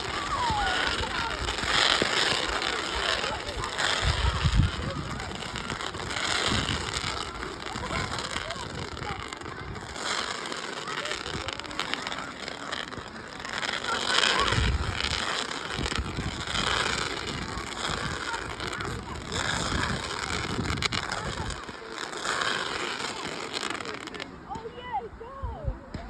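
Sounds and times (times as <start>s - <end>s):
crowd chatter: 0.0s - 26.0s
wind buffeting microphone: 0.0s - 26.0s.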